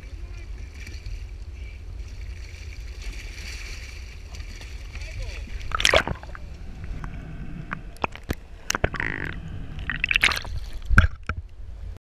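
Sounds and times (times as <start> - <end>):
steady low rumble: 0.0 - 12.0
sea water splashing: 0.1 - 11.4.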